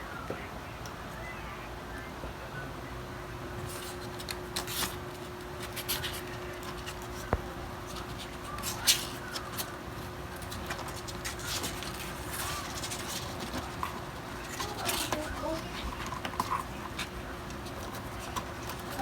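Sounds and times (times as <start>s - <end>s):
rustling: 3.6s - 19.0s.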